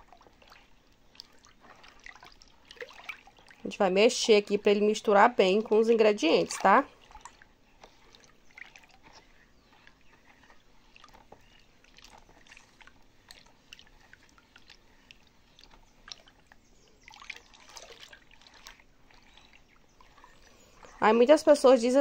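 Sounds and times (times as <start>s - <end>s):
small splashes: 0.0s - 21.2s
liquid sloshing in a plastic bowl: 0.0s - 21.8s.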